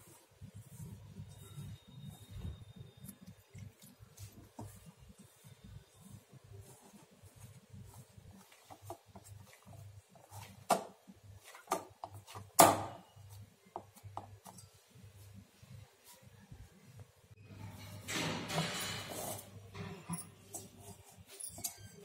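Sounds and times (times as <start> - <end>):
hands kneading dough: 0.0 - 17.4, 19.0 - 22.0.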